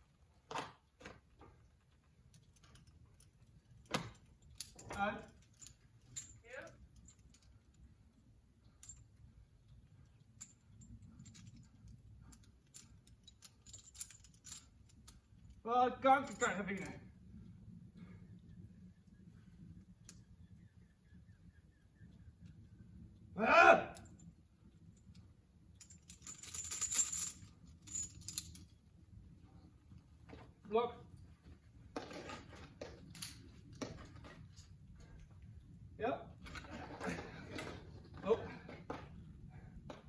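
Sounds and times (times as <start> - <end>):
climbing hardware clinking and scraping: 0.4 - 18.6, 24.0 - 40.0.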